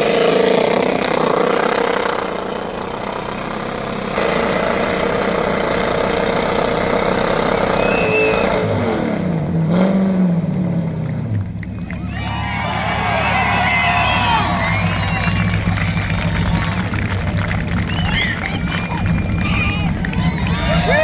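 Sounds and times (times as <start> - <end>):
car engine revving: 0.0 - 21.0
tyre burnout noise: 0.0 - 21.0.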